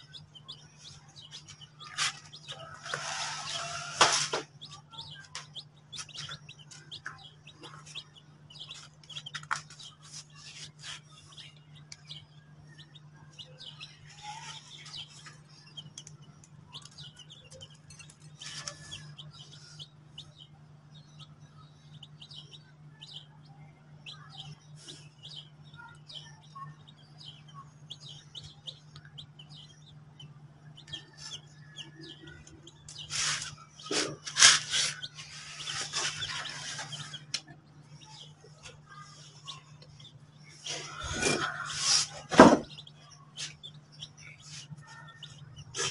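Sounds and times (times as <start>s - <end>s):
baby chicks peeping: 0.0s - 45.9s
steady low hum: 0.0s - 45.9s.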